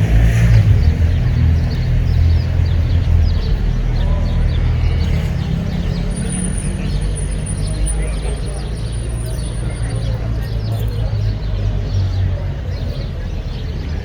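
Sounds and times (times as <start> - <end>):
low engine rumble: 0.0 - 14.0
small birds chirping: 0.0 - 14.0.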